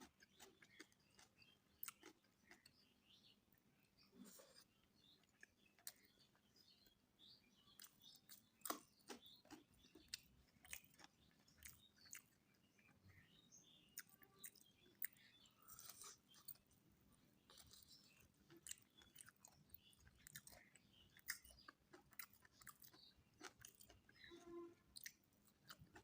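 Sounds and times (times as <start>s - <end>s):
person chewing food: 0.0s - 3.0s, 4.2s - 26.0s.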